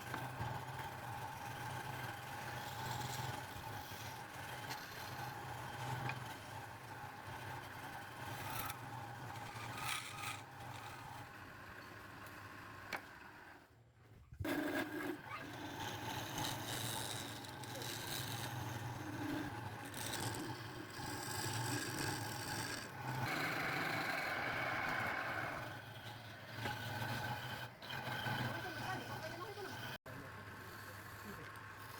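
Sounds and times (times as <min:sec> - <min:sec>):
lathe motor humming: 0:00.0 - 0:13.5, 0:14.5 - 0:31.9
tool scraping spinning wood: 0:00.0 - 0:13.6, 0:14.4 - 0:31.9.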